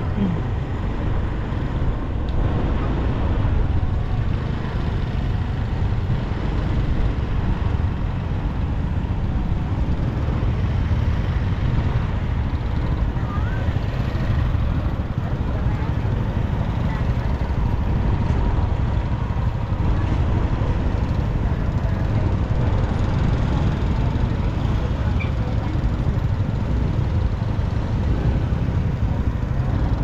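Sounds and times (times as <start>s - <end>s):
low street rumble: 0.0s - 30.0s.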